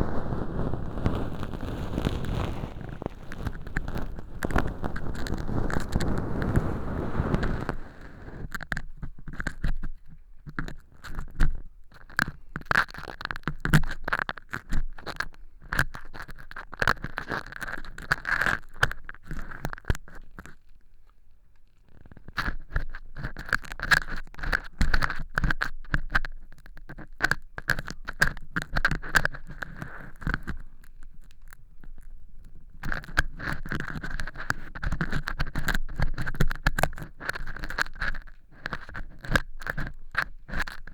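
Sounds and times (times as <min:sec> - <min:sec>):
earpick scraping crackly material: 0:00.0 - 0:40.9.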